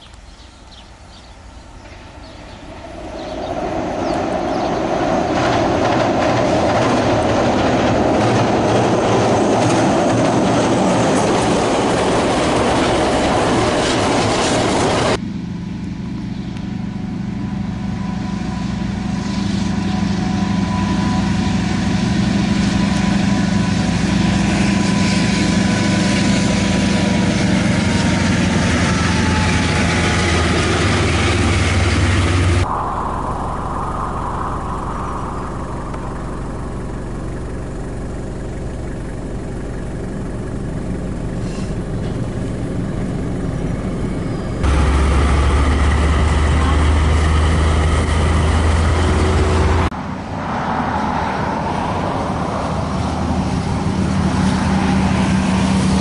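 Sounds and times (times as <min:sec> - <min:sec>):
freight train rumbling onto bridge: 0:00.0 - 0:15.2, 0:16.7 - 0:56.0
diesel engine drone with whine: 0:00.0 - 0:56.0.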